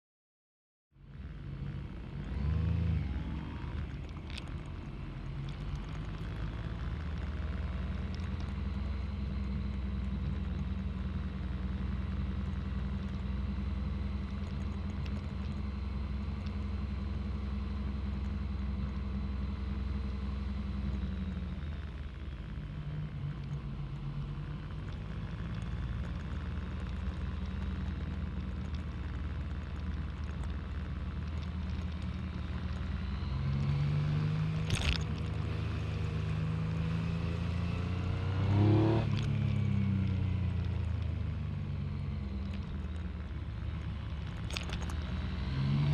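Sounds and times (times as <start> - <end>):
motorcycle engine running: 1.0 - 45.9.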